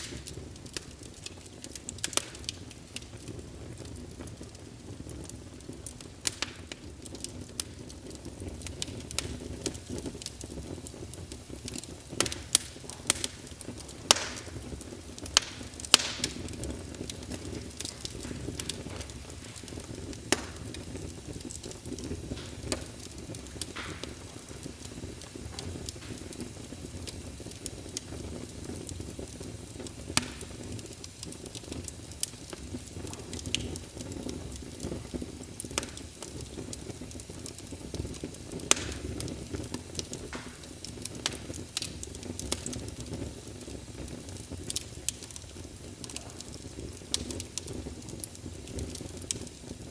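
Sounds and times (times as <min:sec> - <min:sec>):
fire crackling and popping: 0:00.0 - 0:49.9
low rush of flames: 0:00.0 - 0:49.9.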